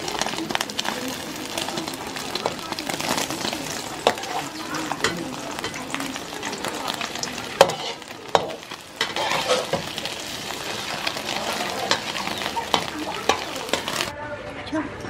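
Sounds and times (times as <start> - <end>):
metal spatula scraping wok: 0.0 - 14.1
omelette sizzling in oil: 0.0 - 14.1.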